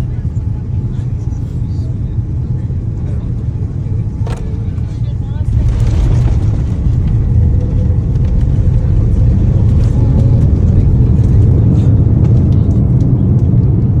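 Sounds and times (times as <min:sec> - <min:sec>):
airliner engine rumble: 0:00.0 - 0:14.0.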